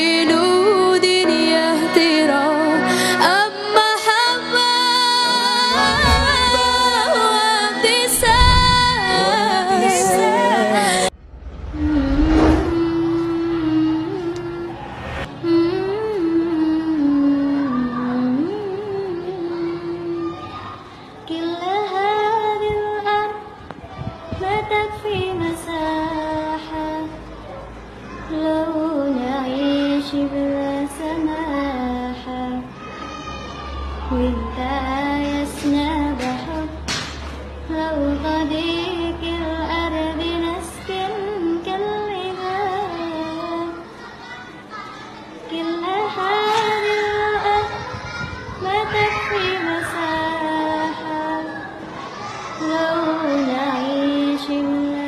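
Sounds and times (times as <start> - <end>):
woman singing: 0.0 - 11.1, 11.8 - 20.2, 21.2 - 23.6, 24.3 - 27.2, 28.3 - 32.7, 34.1 - 36.9, 37.6 - 43.8, 45.5 - 47.8, 48.6 - 51.6, 52.6 - 55.0.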